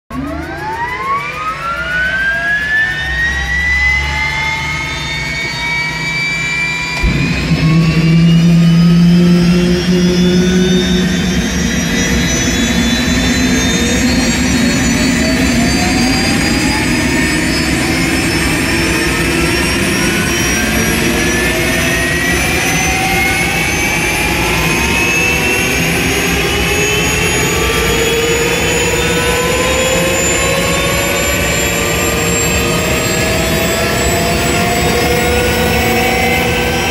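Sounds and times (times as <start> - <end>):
turbine engine whine: 0.1 - 36.9
low combustion rumble: 2.9 - 32.6.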